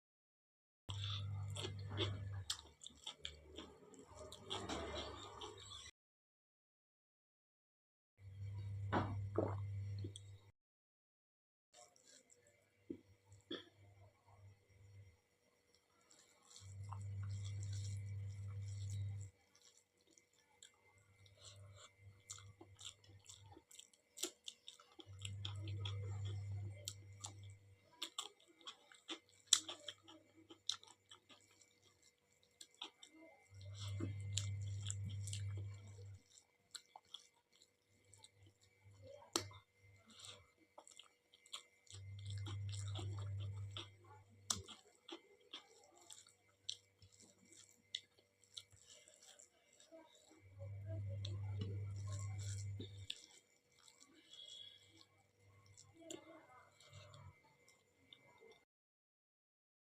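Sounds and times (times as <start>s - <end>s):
chewing with wet mouth clicks: 0.9s - 5.9s, 11.8s - 13.7s, 15.7s - 58.6s.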